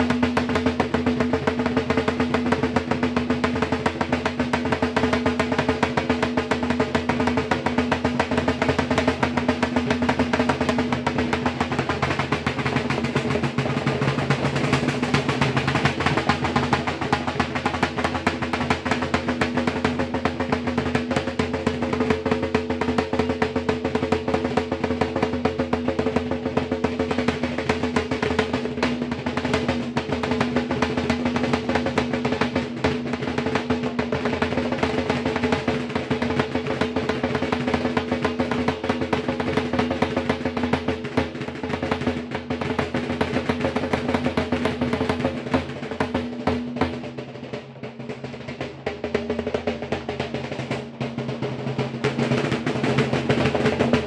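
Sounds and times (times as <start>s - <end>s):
drums beaten in fast rolls: 0.0s - 54.0s.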